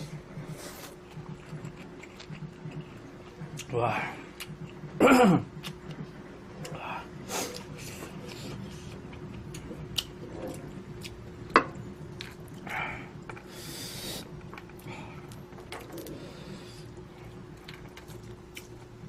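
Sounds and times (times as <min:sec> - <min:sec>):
quiet chewing: 0:00.0 - 0:04.9, 0:05.6 - 0:11.2, 0:14.2 - 0:19.0
steady low hum: 0:00.0 - 0:19.0.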